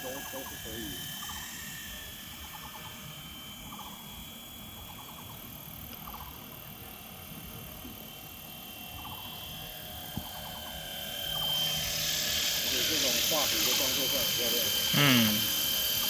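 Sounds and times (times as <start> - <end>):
model helicopter whine: 0.0 - 16.0.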